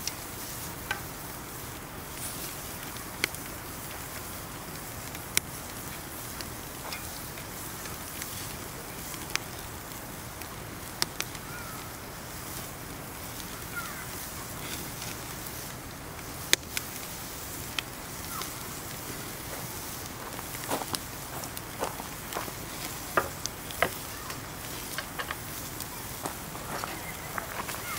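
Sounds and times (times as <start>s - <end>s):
campfire crackling: 0.0s - 27.9s
sharp pops from burning logs: 0.0s - 27.9s.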